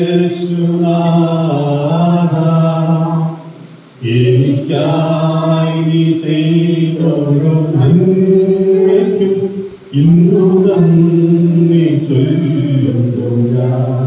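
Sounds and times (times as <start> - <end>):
unaccompanied hymn singing: 0.0 - 14.0.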